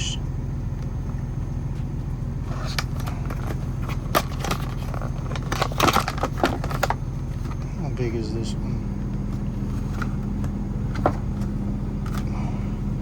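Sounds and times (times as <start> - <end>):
truck engine idling: 0.0 - 13.0
handling clicks and rustling: 0.8 - 8.1, 9.1 - 12.3.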